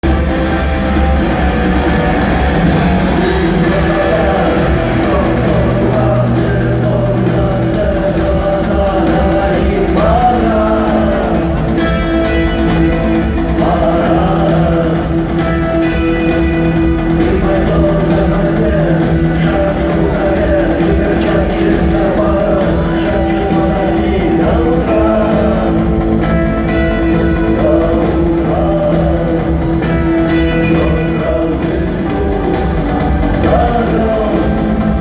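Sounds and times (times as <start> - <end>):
rock band with singing: 0.0 - 35.0.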